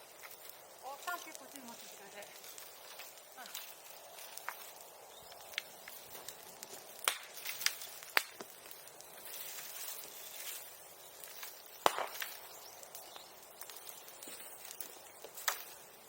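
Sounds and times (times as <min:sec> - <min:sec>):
bonfire hiss: 0:00.0 - 0:16.0
fire popping: 0:00.0 - 0:16.0.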